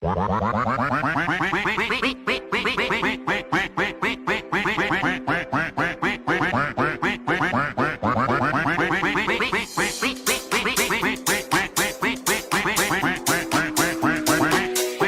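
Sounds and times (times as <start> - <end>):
rhythmic quacking calls: 0.3 - 15.0
music with pitched backing: 0.9 - 15.0.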